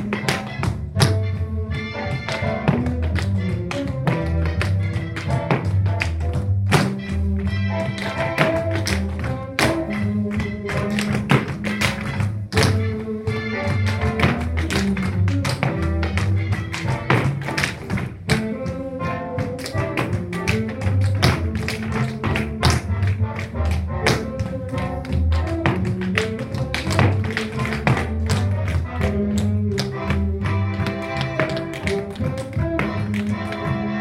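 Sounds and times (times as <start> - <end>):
tap shoes striking floor: 0.0 - 1.2, 2.1 - 12.9, 13.6 - 18.8, 19.4 - 33.7
recorded music with bass line: 0.0 - 34.0.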